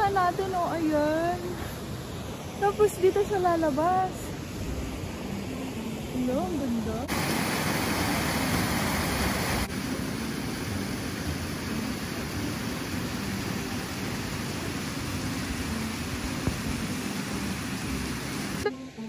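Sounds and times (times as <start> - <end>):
rushing rocky stream: 0.0 - 18.7.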